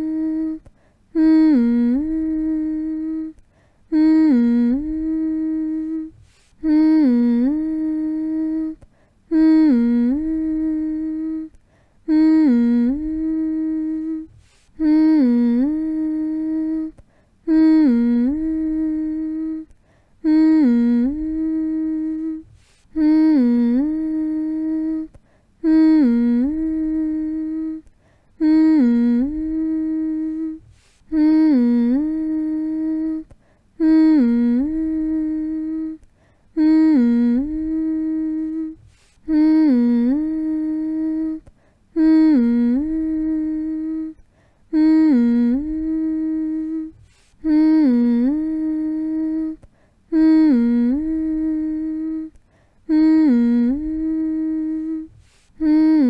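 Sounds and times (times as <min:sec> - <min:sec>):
person humming a lullaby: 0:00.0 - 0:56.0.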